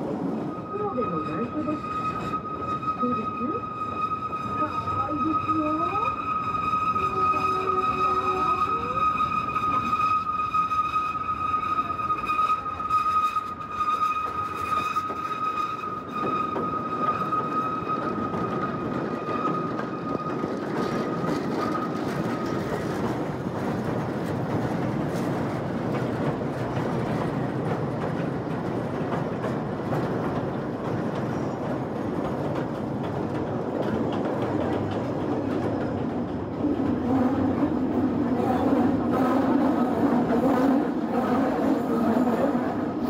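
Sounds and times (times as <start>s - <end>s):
train wheels clattering on rails: 6.1s - 43.0s.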